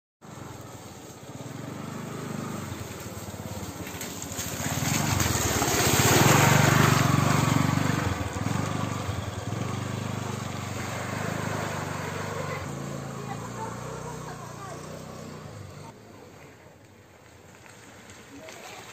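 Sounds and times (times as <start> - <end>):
scooter engine passing by: 0.2 - 18.9.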